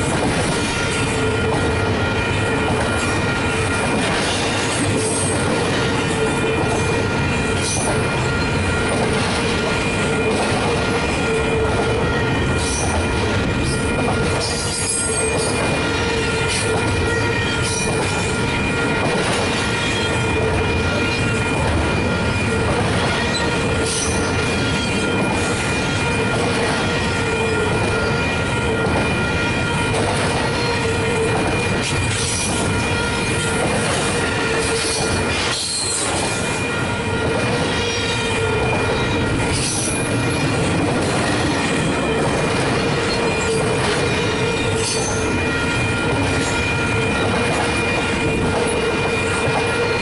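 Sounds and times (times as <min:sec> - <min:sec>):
rail cars clacking: 0:00.0 - 0:50.0
train wheels rumbling on rail: 0:00.0 - 0:50.0.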